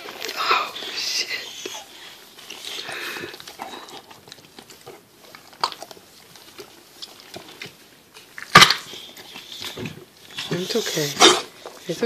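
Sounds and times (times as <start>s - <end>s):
dog licking puppy: 0.0s - 12.0s.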